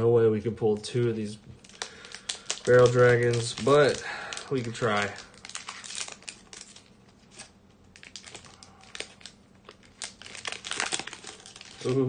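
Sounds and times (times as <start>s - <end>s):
foil pack crinkling: 0.7s - 12.0s.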